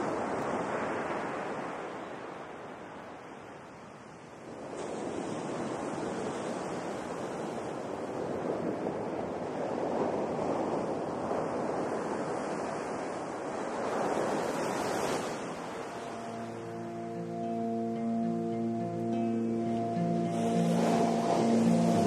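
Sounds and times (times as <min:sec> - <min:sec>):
sea waves washing in: 0:00.0 - 0:03.6, 0:04.3 - 0:22.0.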